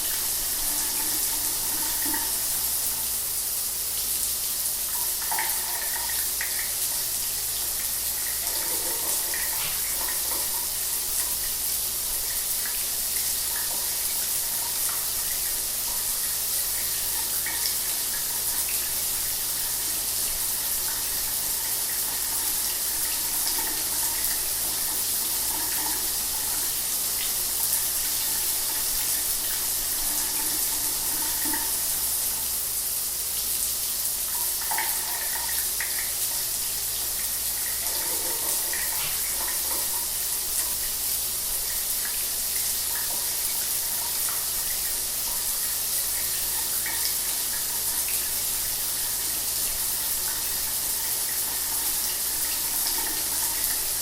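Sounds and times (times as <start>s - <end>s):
shower water running: 0.0s - 54.0s.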